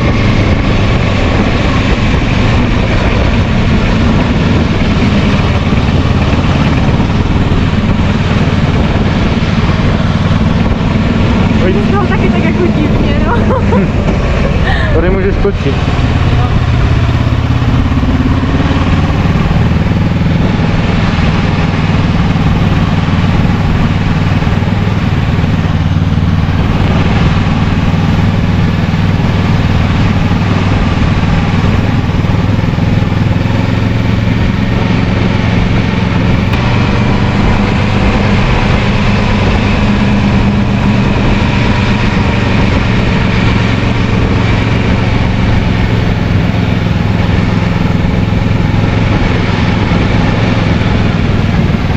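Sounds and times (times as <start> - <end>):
motorcycle engine running: 0.0 - 51.9
wind rush: 0.0 - 51.9.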